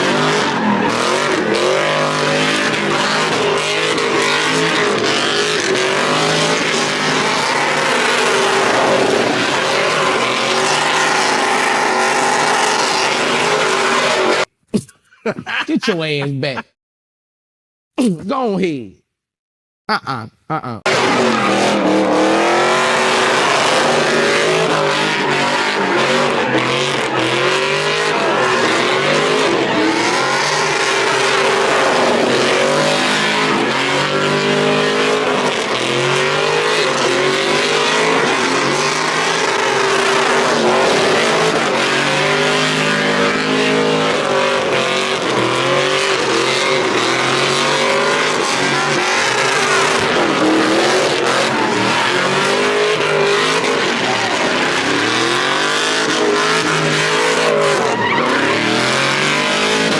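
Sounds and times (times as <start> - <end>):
truck engine revving: 0.0 - 14.5, 20.9 - 59.9.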